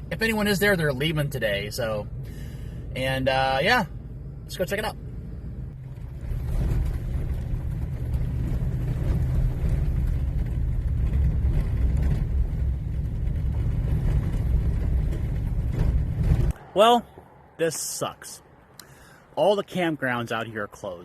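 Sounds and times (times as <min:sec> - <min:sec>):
van engine rumble: 0:00.0 - 0:17.3
road noise: 0:00.0 - 0:21.0.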